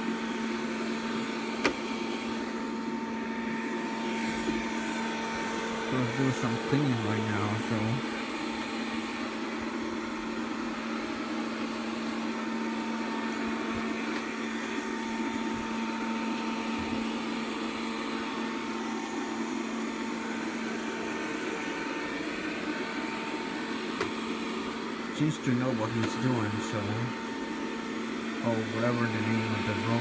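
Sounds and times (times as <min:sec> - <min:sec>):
robot vacuum cleaner running: 0:00.0 - 0:30.0.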